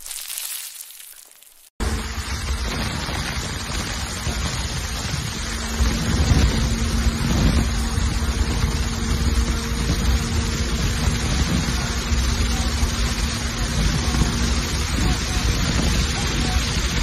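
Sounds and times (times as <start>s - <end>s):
truck engine running: 1.8s - 17.0s
wind buffeting microphone: 1.8s - 17.0s.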